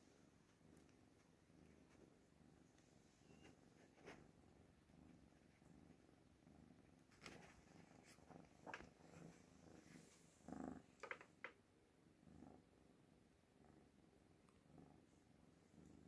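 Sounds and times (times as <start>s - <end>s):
kittens purring: 0.0s - 16.0s.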